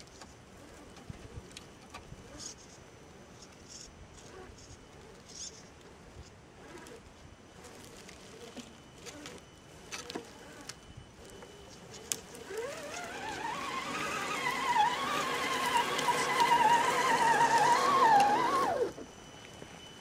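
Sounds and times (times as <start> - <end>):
electric motor and gearbox whining: 0.0 - 20.0.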